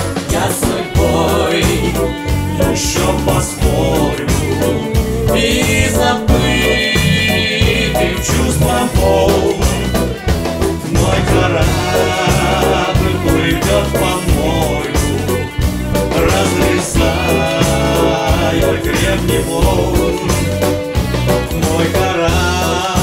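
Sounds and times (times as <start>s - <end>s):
piano playing: 0.0s - 23.0s
rhythmic bass line: 0.0s - 23.0s.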